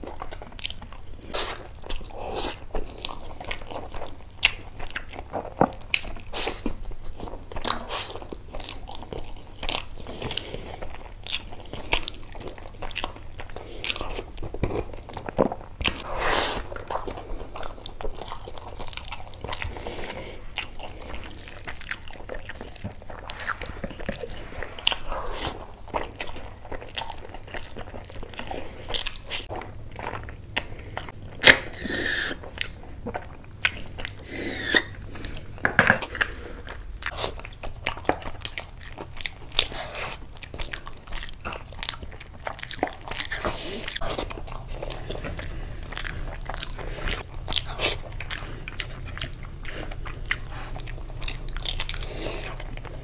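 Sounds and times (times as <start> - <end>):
man chewing and crunching: 0.0 - 53.0.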